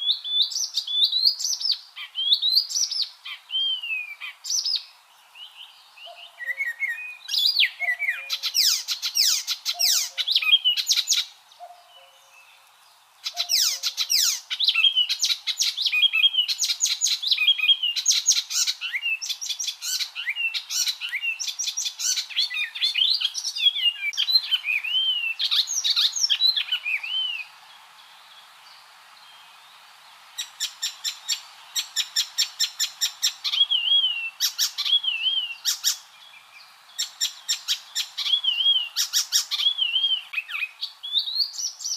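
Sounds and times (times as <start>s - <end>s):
warbler singing: 0.0s - 29.8s, 30.4s - 41.9s.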